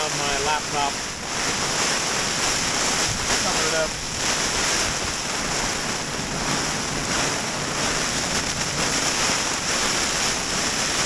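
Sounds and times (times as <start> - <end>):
rain beating on tent fabric: 0.0 - 11.0
strong gusting wind: 0.0 - 11.0.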